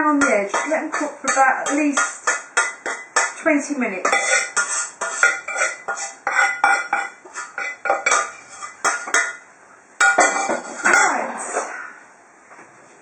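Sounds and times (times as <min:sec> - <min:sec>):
metal utensil clattering in pan: 0:00.1 - 0:03.4, 0:04.0 - 0:09.4, 0:10.0 - 0:11.7.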